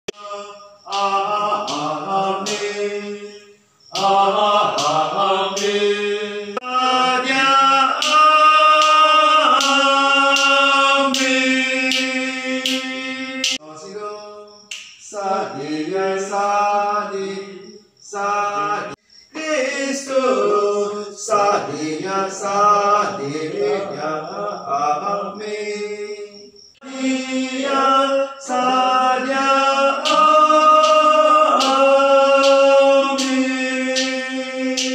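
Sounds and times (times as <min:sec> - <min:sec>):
men's choir singing: 0:00.1 - 0:34.9.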